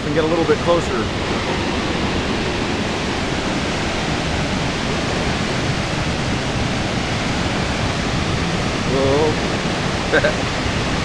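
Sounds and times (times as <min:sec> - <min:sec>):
water roaring over a spillway: 0:00.0 - 0:11.0.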